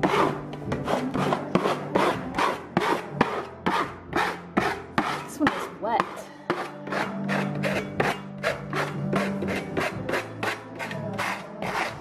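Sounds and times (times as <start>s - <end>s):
scraper scraping wall: 0.0s - 12.0s.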